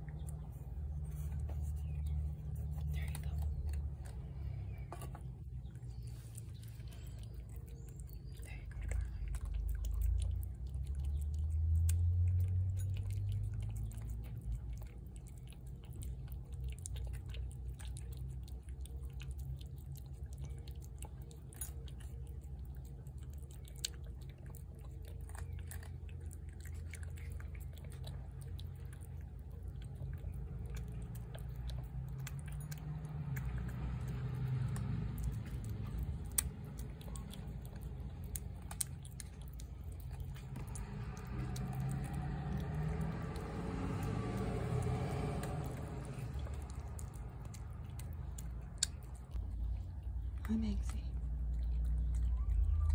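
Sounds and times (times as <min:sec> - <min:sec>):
cat chewing food: 0:00.0 - 0:52.9.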